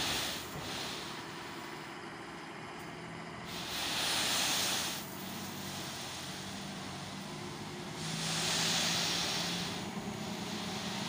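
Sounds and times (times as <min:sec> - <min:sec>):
stone dust sliding hissing rush: 0:00.0 - 0:01.5, 0:03.4 - 0:11.0
truck engine hum: 0:00.0 - 0:11.0.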